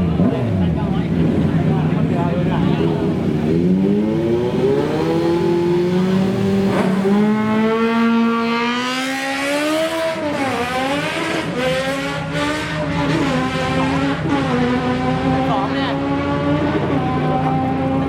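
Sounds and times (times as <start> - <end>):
drag racing engine accelerating: 0.0 - 18.0.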